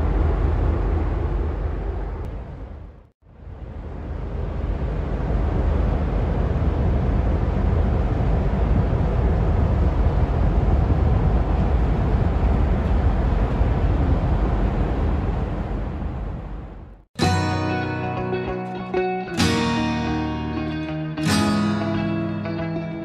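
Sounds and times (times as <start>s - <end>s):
ship engine and propeller rumble: 0.0s - 23.0s.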